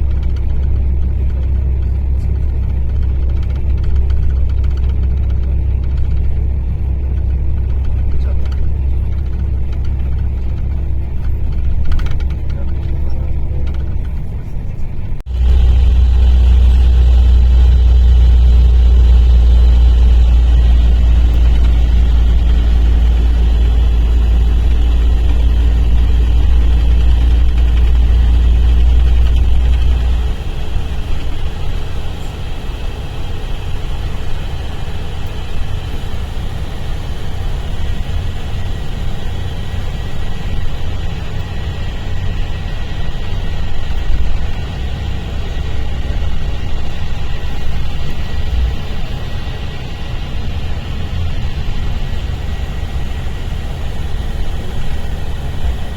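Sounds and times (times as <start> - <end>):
diesel engine deep rumble: 0.0 - 55.9.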